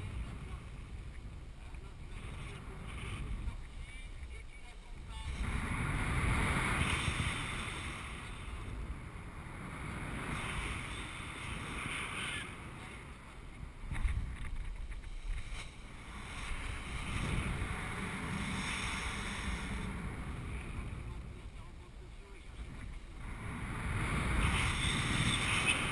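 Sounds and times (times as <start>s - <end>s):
wind buffeting a microphone: 0.0s - 25.9s.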